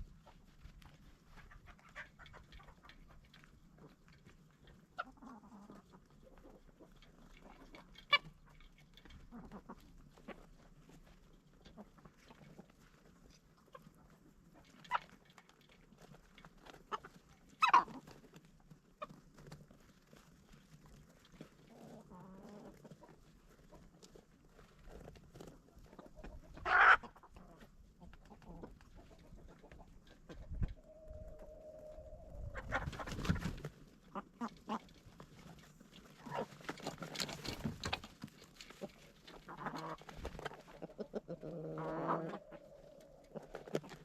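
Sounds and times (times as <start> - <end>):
chickens clucking and calling: 0.0 - 44.0.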